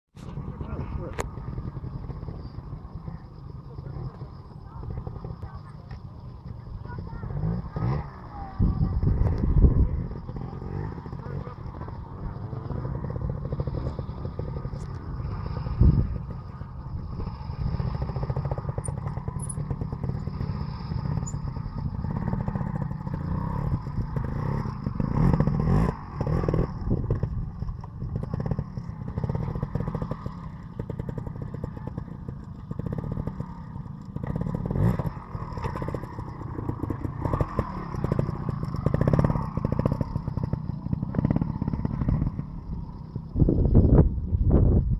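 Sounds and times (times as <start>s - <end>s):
motorcycle engine throttle blips: 0.2s - 44.9s.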